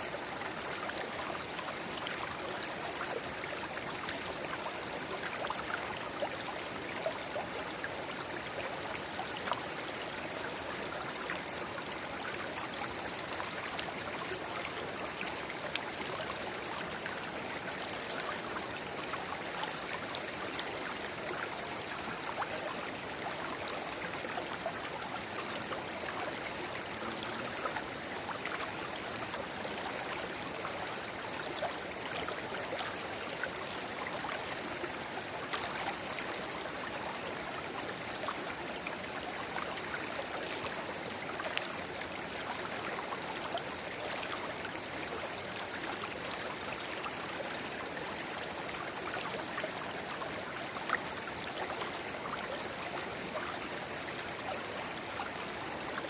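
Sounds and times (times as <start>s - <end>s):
river babbling over stones: 0.1s - 56.0s.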